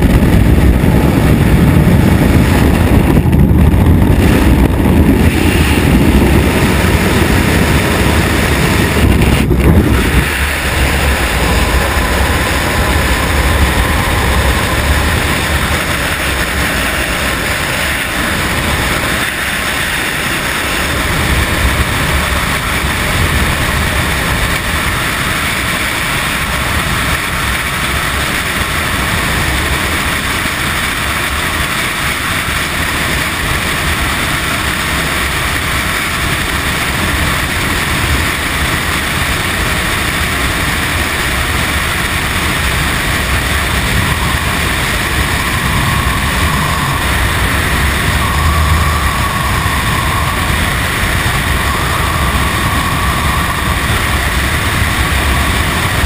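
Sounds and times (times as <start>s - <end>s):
wind roaring over microphone: 0.0s - 56.0s.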